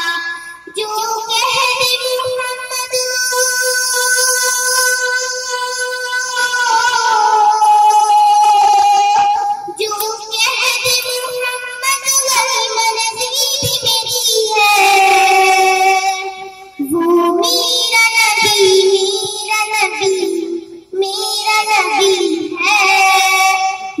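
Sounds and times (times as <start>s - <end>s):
girl singing: 0.0s - 24.0s.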